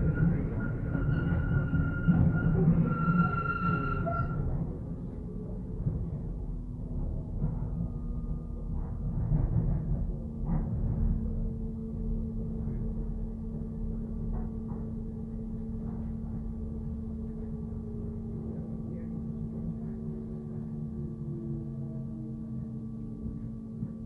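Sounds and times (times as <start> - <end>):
train electrical hum and whine: 0.0 - 24.0
train low rumble: 0.0 - 24.0.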